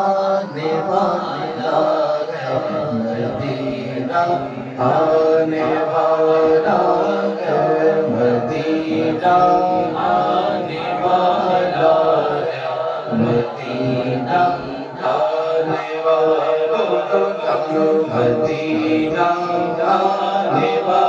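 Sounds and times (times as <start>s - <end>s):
men singing devotional chant: 0.0s - 21.0s.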